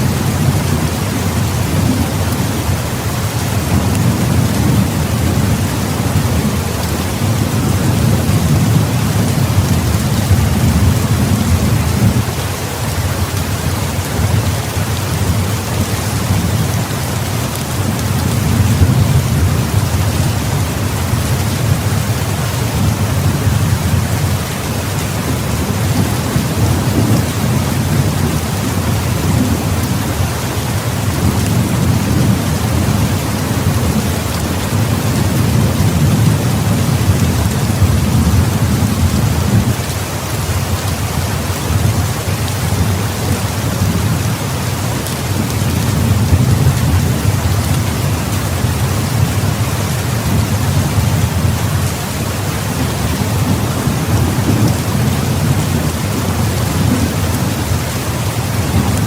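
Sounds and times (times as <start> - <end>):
distant thunder rumbling: 0.0 - 39.9, 45.0 - 59.0
heavy rain pouring: 0.0 - 59.0.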